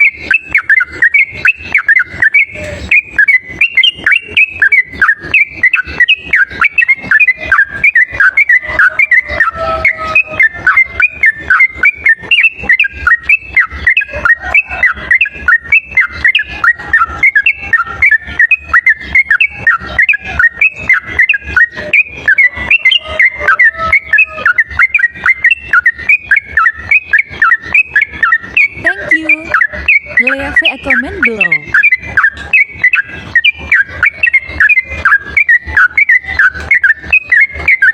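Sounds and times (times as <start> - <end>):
bird singing rapid whistled notes: 0.0 - 37.9.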